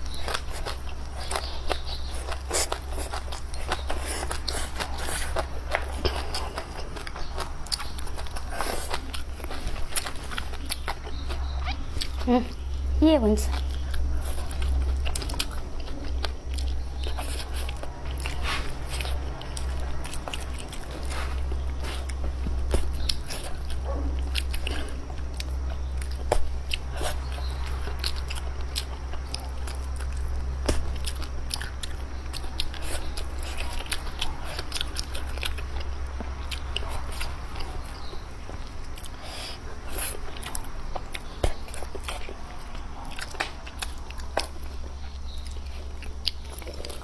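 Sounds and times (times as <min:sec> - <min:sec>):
low hum: 0:00.0 - 0:47.0
person chewing crunchy food: 0:00.0 - 0:47.0.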